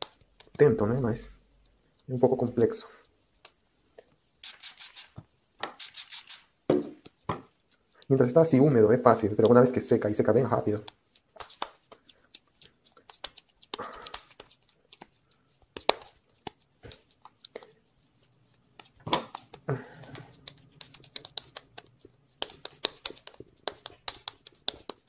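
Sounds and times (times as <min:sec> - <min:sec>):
hands rubbing and patting clay: 0:00.0 - 0:25.0.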